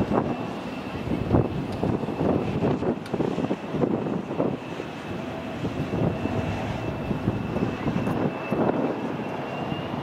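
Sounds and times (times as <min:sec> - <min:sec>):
jet engines spooling up: 0:00.0 - 0:10.0.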